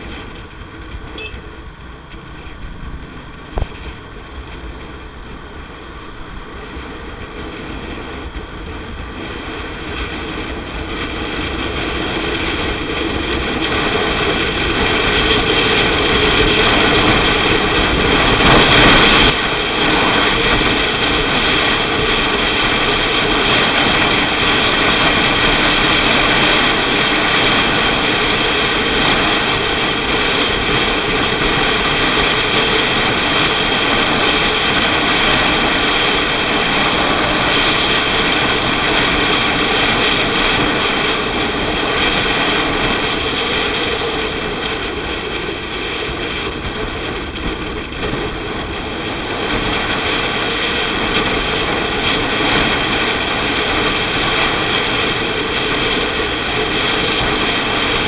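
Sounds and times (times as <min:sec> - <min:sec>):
motorcycle engine drone: 0:00.0 - 0:58.0
wind rush: 0:00.0 - 0:58.0.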